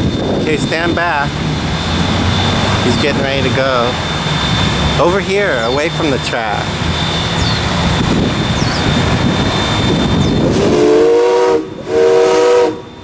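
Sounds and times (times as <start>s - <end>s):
hissing steam: 0.0s - 13.0s
steam locomotive whistle: 0.0s - 13.0s.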